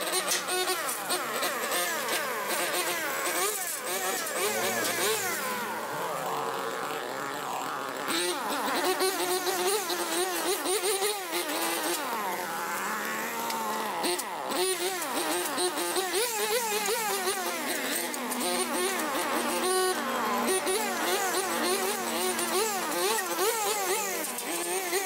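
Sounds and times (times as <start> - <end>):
brush cutters cutting grass: 0.0 - 25.0.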